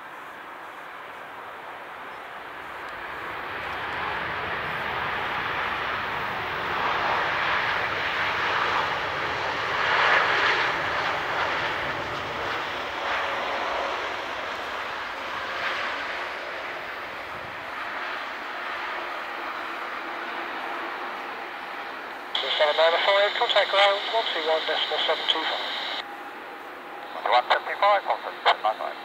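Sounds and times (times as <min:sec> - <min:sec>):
jet engines of rolling airliner: 0:00.0 - 0:29.0.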